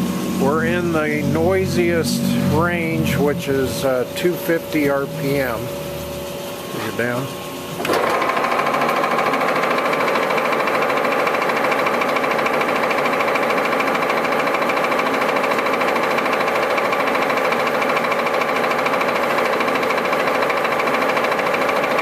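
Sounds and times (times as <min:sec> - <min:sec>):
lathe whine: 0:00.0 - 0:22.0.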